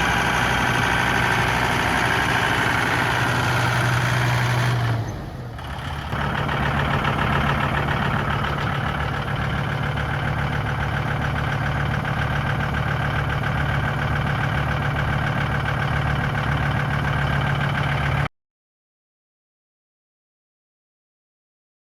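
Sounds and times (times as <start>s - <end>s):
tractor diesel engine running: 0.0s - 18.3s.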